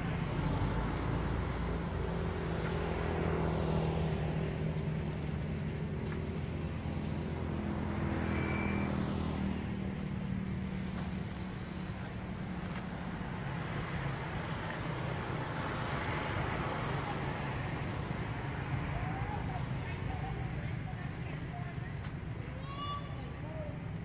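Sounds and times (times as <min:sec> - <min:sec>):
engine running: 0:00.0 - 0:20.5.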